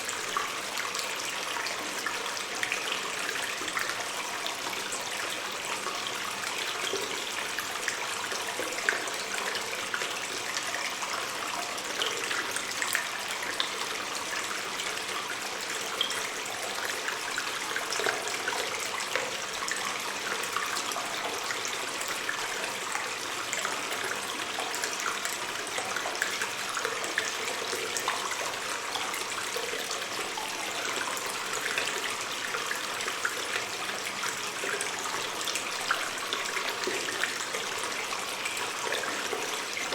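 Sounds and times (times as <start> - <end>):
water splashes and drips: 0.0 - 39.9
water stream flowing: 0.0 - 39.9.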